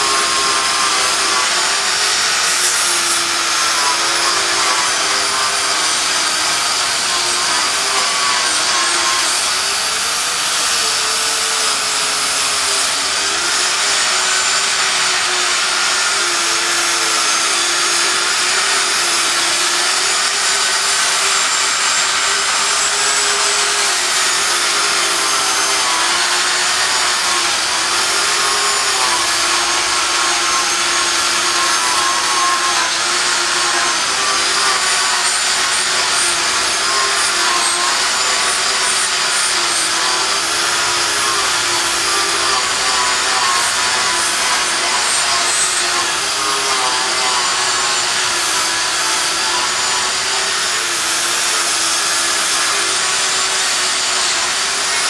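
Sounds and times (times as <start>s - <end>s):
power sander running: 0.0s - 55.0s.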